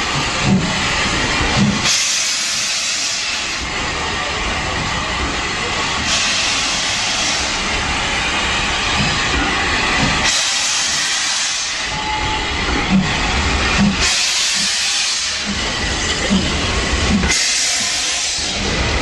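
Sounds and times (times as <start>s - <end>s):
steam hissing: 0.0s - 19.0s
train coaches rolling past: 0.0s - 19.0s.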